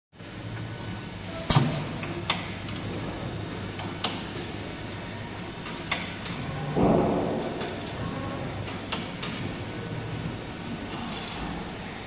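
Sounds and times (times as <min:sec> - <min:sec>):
low machine hum: 0:00.2 - 0:12.0.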